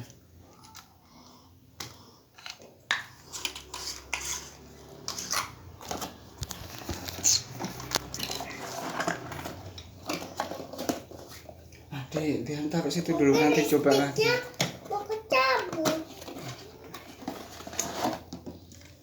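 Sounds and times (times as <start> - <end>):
hard objects knocking and clattering: 1.8 - 11.9, 13.7 - 19.0.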